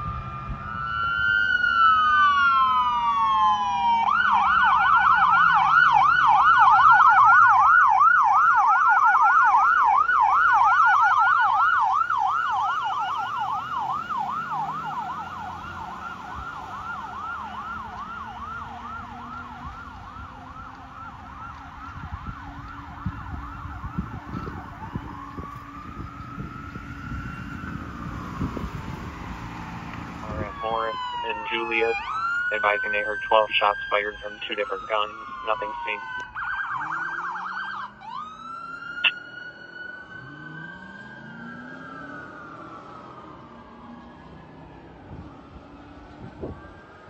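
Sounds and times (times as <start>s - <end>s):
fire truck siren wailing and yelping: 0.0s - 47.0s.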